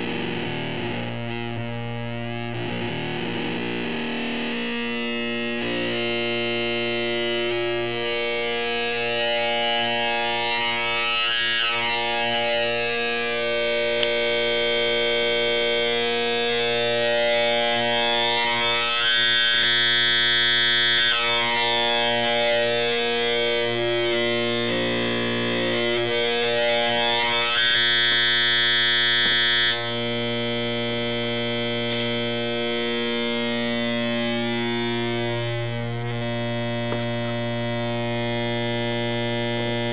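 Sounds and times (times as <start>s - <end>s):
synth square wave drone: 0.0s - 39.9s.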